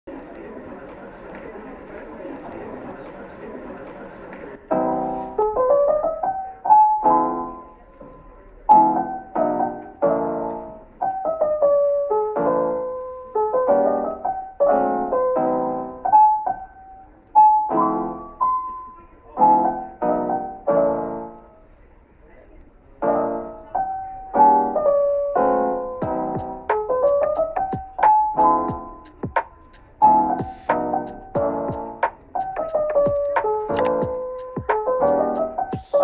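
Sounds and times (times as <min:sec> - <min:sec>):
solo piano music: 0:00.1 - 0:36.0.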